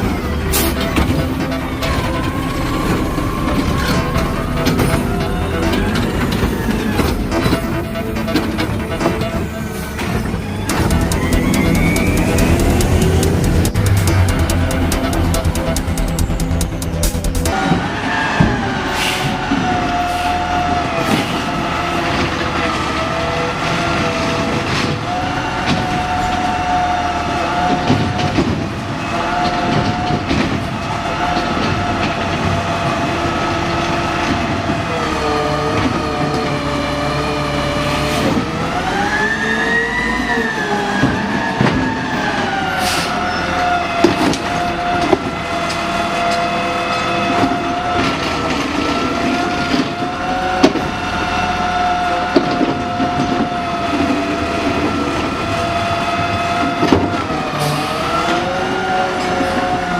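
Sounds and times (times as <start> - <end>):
garbage truck mechanical whine: 0.0 - 59.9.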